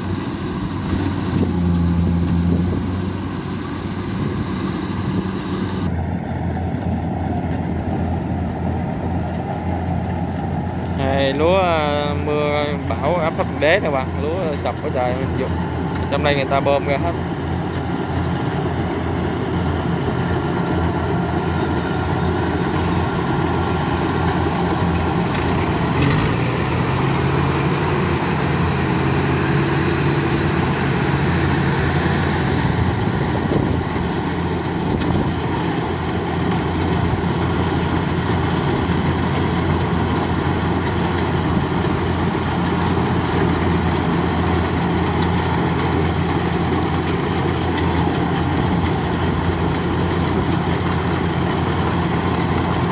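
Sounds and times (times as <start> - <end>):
combine harvester engine hum: 0.0 - 52.9.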